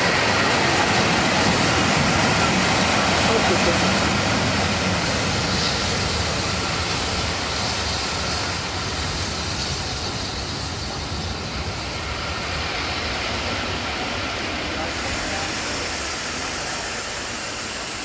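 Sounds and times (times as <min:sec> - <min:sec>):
train rushing rumble: 0:00.0 - 0:18.0.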